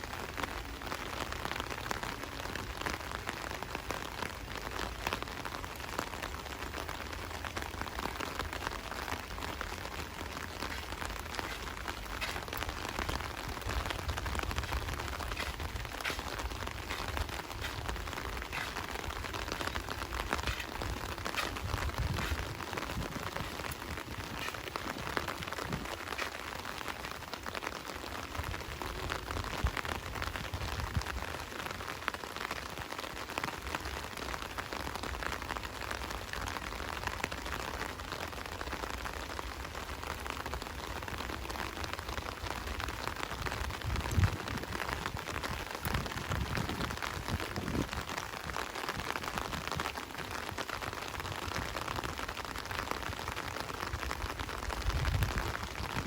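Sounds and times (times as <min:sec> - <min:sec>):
rain drops pattering: 0:00.0 - 0:56.0.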